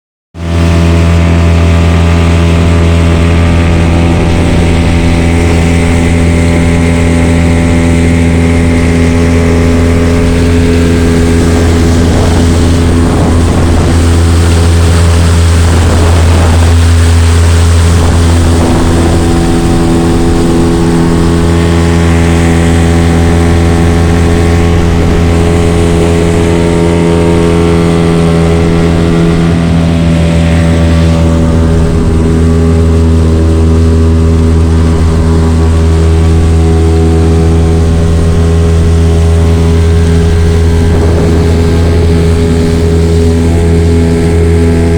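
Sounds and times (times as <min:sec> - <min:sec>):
engine running steadily: 0:00.3 - 0:44.9.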